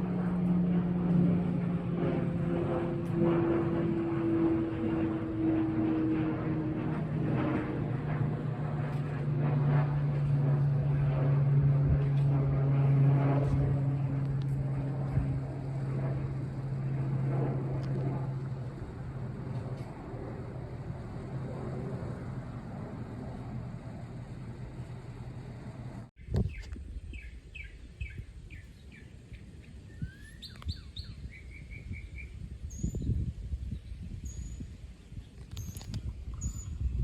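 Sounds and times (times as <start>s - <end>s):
airliner engine drone: 0.0s - 37.0s.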